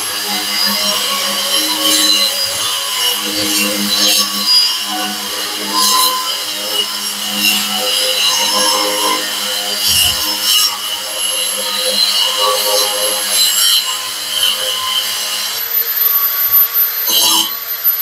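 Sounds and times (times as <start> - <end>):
power tool motor running: 0.0 - 18.0
wall chaser grinding masonry: 0.0 - 18.0.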